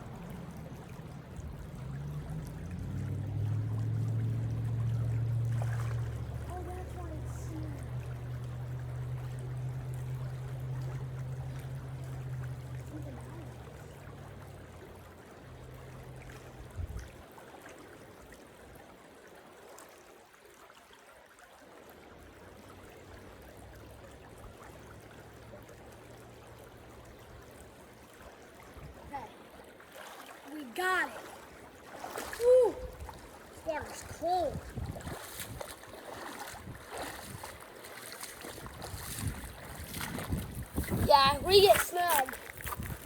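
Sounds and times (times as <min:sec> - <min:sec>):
low steady hum: 0:00.0 - 0:17.2, 0:22.9 - 0:43.0
creek water running: 0:00.0 - 0:43.0.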